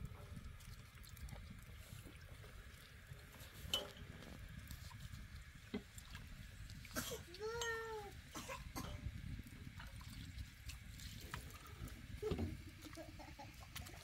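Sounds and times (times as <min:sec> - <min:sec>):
water trickling over dishes: 0:00.0 - 0:14.0.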